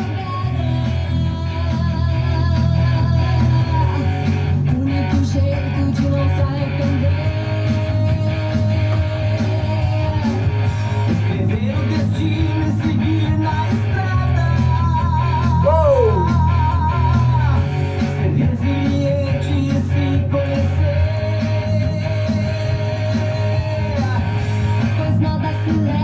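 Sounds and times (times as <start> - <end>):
rock song on the radio: 0.0 - 26.0.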